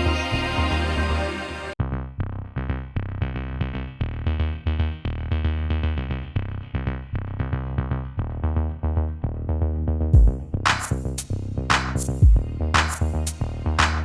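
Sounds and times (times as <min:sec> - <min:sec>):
bass and drum-machine beat: 0:01.8 - 0:14.0.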